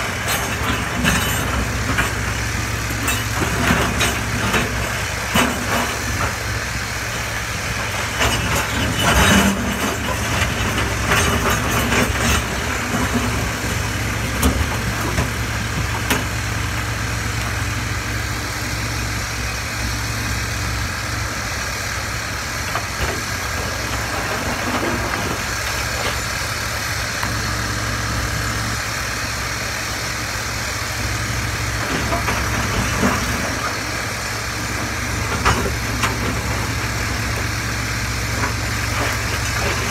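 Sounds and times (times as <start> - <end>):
excavator diesel engine running: 0.0 - 39.9
truck engine idling: 0.0 - 39.9.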